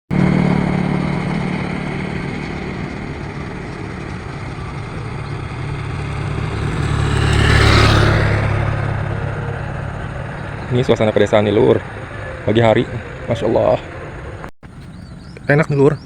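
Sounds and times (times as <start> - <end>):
vehicle engine passing: 0.1 - 16.0.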